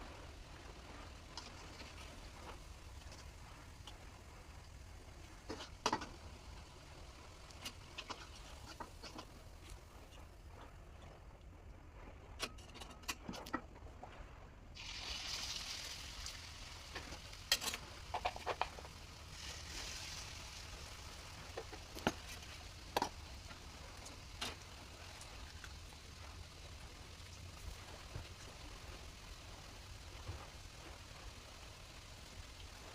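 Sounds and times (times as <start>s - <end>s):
fritters sizzling in hot oil: 0.0s - 9.8s, 14.8s - 32.9s.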